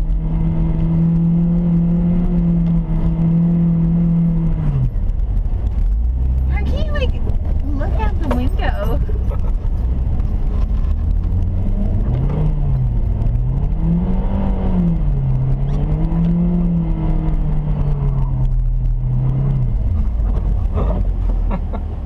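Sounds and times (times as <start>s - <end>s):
car engine revving from cabin: 0.0s - 5.1s, 5.9s - 22.0s
constant low rumble: 0.0s - 22.0s.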